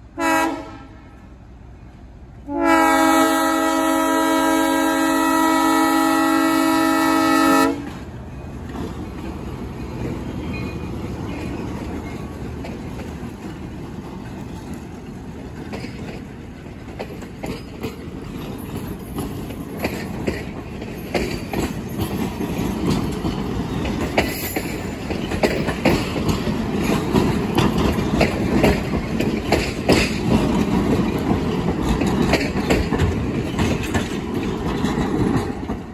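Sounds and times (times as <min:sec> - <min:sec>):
train rolling on rails: 0:00.0 - 0:35.9.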